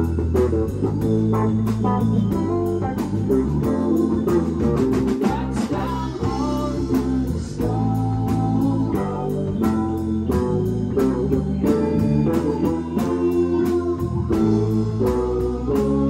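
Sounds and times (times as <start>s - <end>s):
bending guitar notes: 0.0s - 16.0s
rock band playing: 0.0s - 16.0s.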